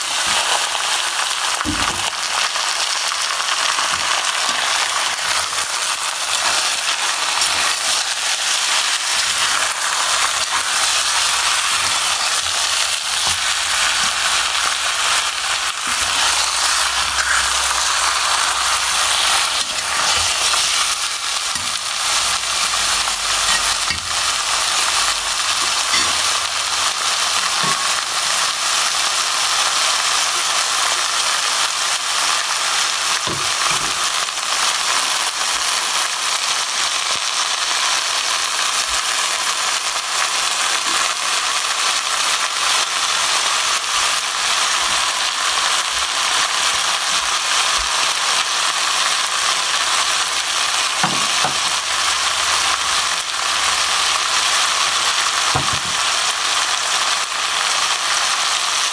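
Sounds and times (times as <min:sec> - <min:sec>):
food frying in hot oil: 0:00.0 - 0:58.9.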